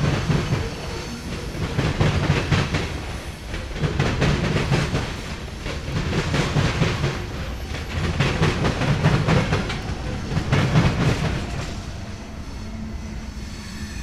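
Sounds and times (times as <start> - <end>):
train wheels clacking over rails: 0.0 - 14.0.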